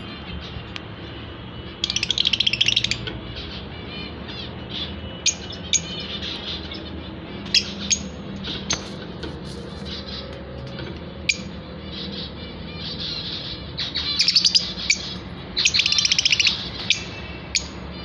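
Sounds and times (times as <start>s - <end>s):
high bird chirps: 0.0s - 18.0s
lovebirds chattering: 0.0s - 18.0s.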